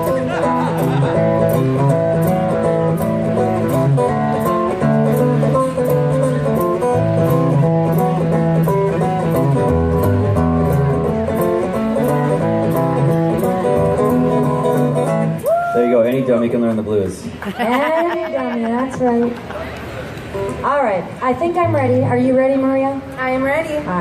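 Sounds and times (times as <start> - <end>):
acoustic guitar blues riff: 0.0 - 16.7, 17.3 - 24.0.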